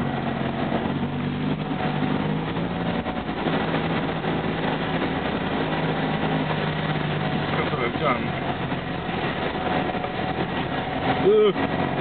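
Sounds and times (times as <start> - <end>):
car engine heard from cabin: 0.0 - 12.0.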